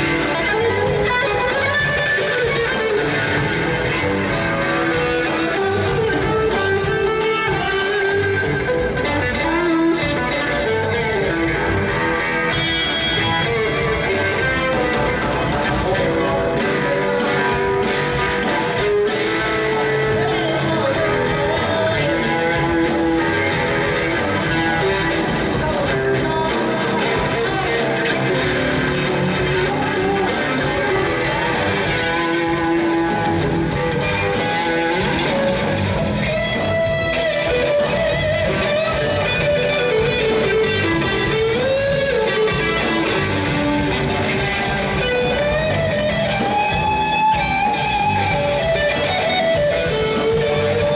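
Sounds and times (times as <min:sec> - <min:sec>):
guitar background music: 0:00.0 - 0:50.9.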